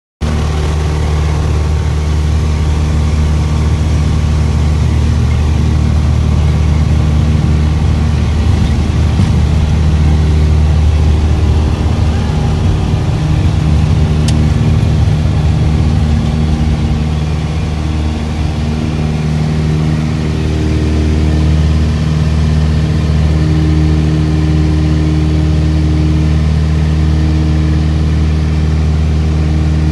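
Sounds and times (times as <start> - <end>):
small plane engine: 0.2 - 29.9.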